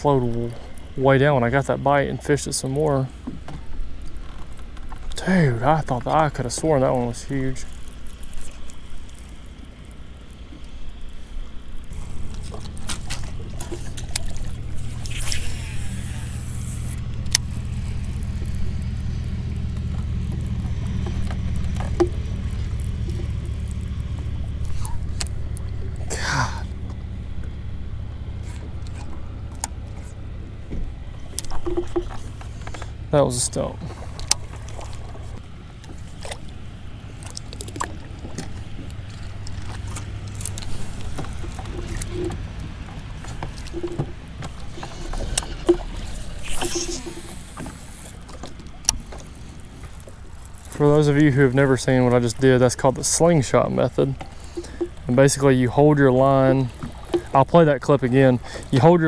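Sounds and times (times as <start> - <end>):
boat motor rumbling: 0.0 - 59.0.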